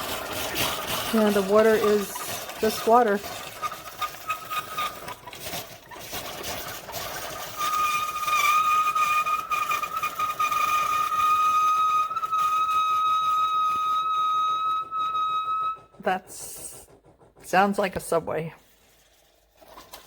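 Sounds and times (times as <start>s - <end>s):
coffee maker hiss: 0.0s - 20.0s
coffee maker whistling whine: 0.0s - 20.0s.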